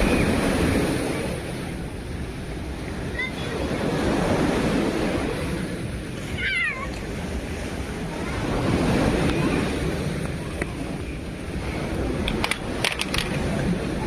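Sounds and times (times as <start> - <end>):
waves washing ashore: 0.0 - 14.0.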